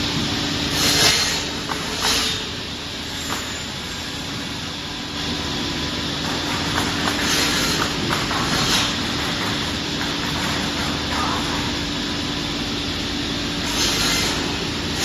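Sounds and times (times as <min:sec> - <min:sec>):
saw machine humming: 0:00.0 - 0:15.0.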